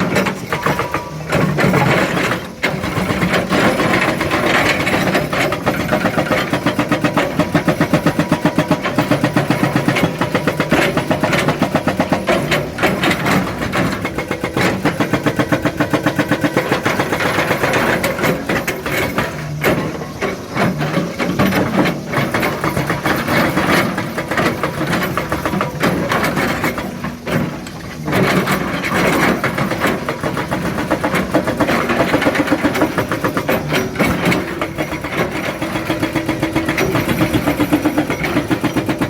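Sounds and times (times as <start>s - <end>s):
excavator diesel engine under load: 0.0s - 39.0s.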